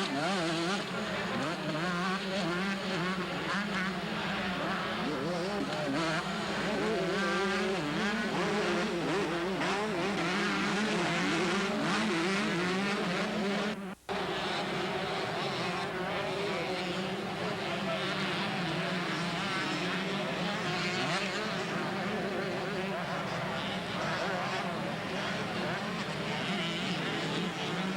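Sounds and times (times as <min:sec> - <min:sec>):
motocross bikes revving: 0:00.0 - 0:27.9.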